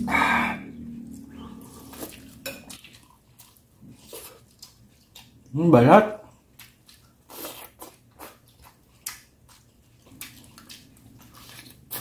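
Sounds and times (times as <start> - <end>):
person chewing: 0.0 - 5.6, 6.3 - 12.0.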